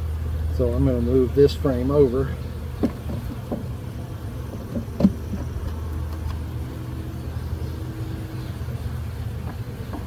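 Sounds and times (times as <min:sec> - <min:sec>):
honeybees humming: 0:00.0 - 0:10.0.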